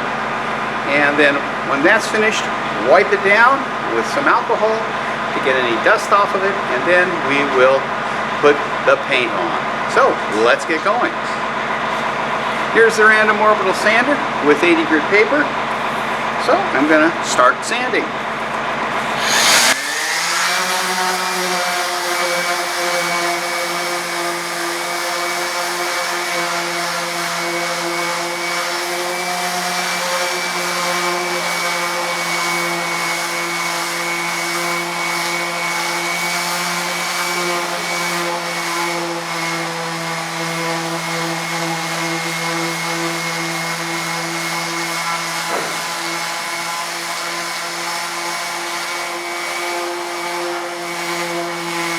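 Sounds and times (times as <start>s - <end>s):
orbital sander whining: 0.1s - 51.9s.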